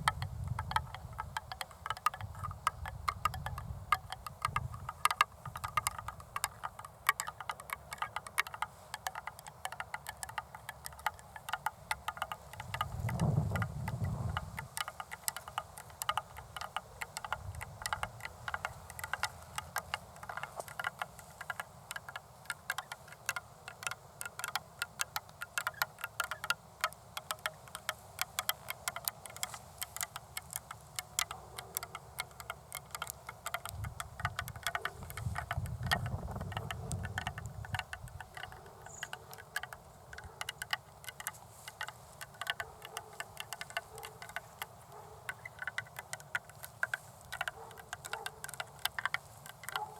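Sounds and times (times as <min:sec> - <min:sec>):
fingernails tapping: 0:00.0 - 0:49.9.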